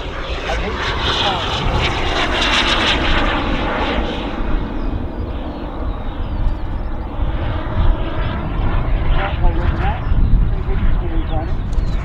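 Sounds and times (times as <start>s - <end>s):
model jet turbine running: 0.0s - 12.0s.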